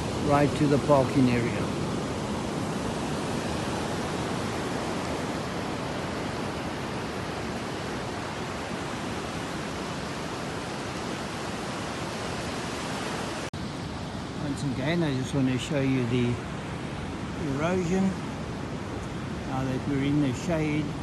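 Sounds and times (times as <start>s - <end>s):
surf and wind rushing: 0.0s - 21.0s.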